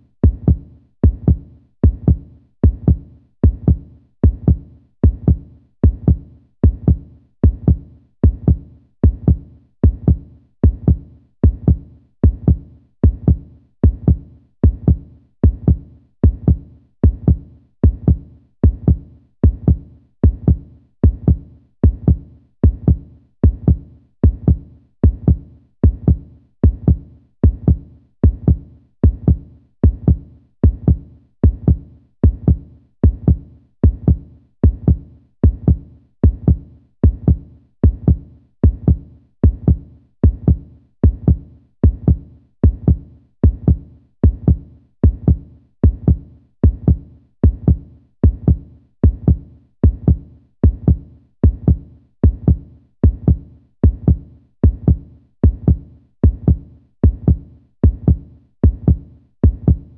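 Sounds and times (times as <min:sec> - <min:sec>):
heartbeat thumps: 0:00.2 - 0:59.9.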